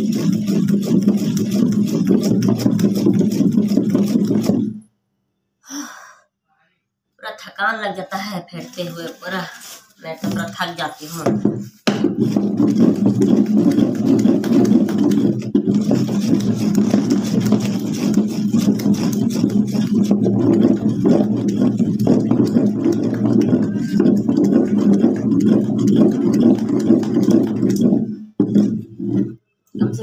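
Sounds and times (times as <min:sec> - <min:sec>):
batter beaten with wooden stick: 0:00.0 - 0:04.8, 0:10.2 - 0:30.0.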